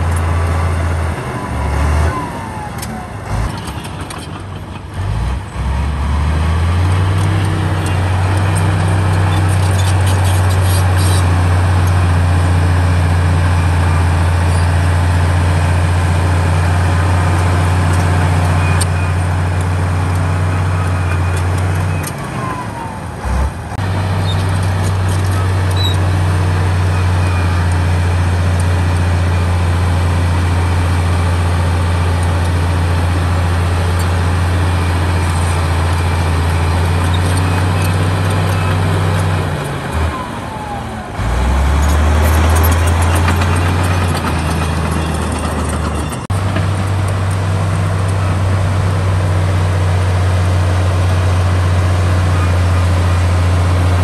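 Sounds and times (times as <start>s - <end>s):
bulldozer diesel engine droning: 0.0s - 54.0s.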